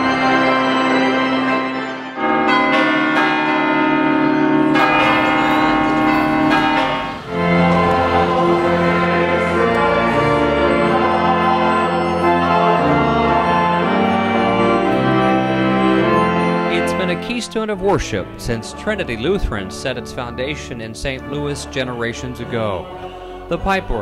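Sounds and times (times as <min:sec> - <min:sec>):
pipe organ playing held chords: 0:00.0 - 0:24.0.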